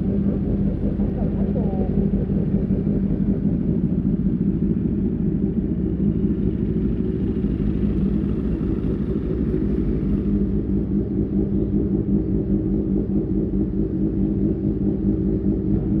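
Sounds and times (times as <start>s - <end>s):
motorcycle exhaust at steady revs: 0.0s - 16.0s.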